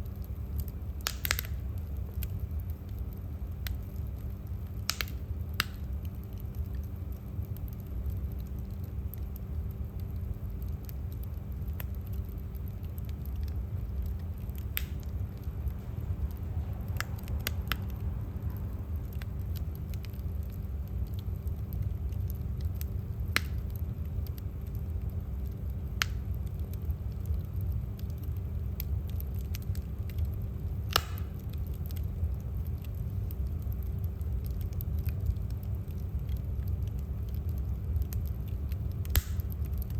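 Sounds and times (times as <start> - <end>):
fire crackles and pops: 0.0 - 39.9
fire low rumble: 0.0 - 39.9.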